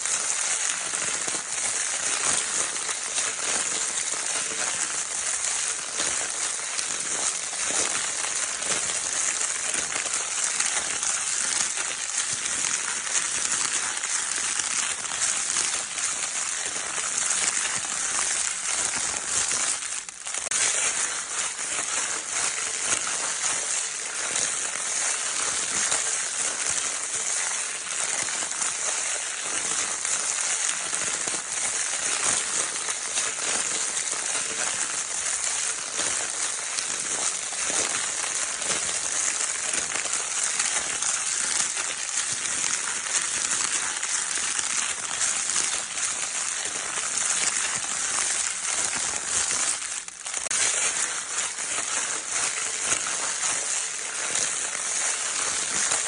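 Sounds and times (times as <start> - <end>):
crinkle paper rustling: 0.4 - 56.0.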